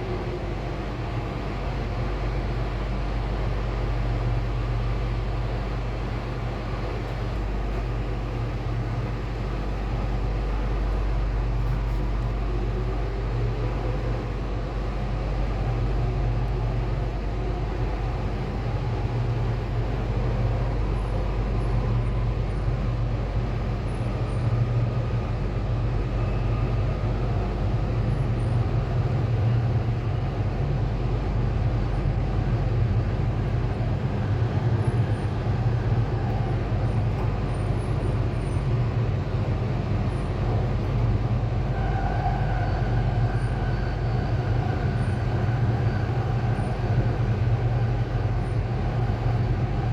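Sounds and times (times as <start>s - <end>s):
train rumble and hum: 0.0s - 49.9s.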